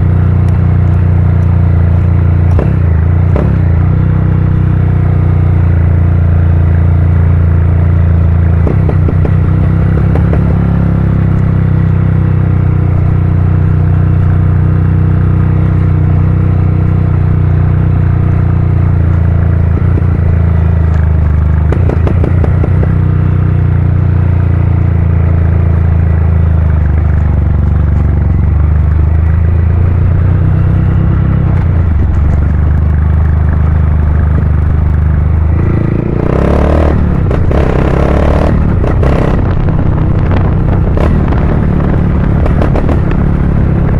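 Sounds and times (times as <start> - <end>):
motorcycle engine rumbling: 0.0 - 43.9.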